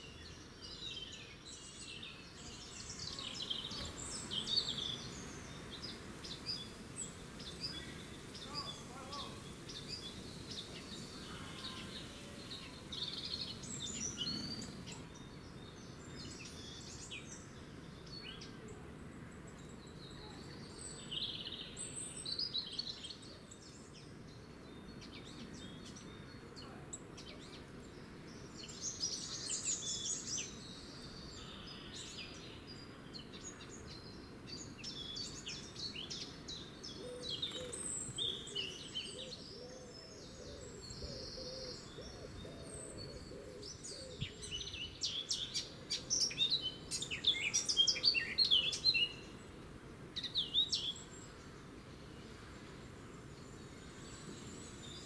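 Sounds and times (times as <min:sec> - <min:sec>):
faint background hiss: 0:00.0 - 0:55.0
small songbirds singing: 0:00.0 - 0:55.0.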